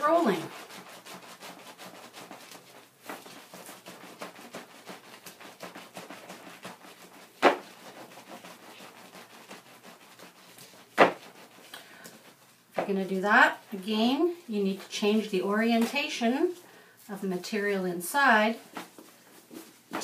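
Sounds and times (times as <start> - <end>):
wet felt rolling and squishing: 0.0 - 17.2, 18.5 - 20.0.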